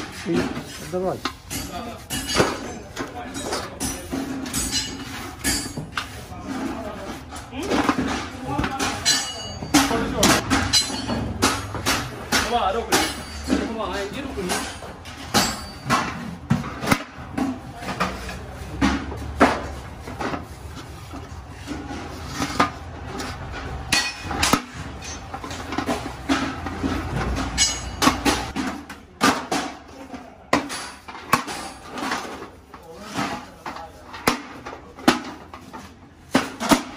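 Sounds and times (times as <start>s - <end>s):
steel buckets clanking: 0.0s - 36.9s.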